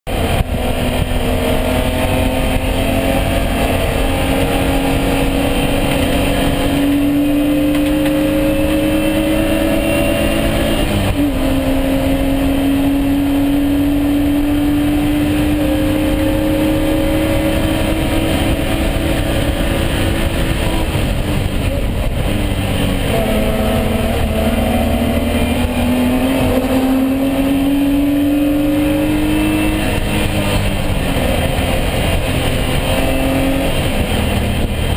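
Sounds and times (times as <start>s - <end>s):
race car engine pulling hard: 0.1s - 34.9s
tyre and wind noise: 0.1s - 34.9s.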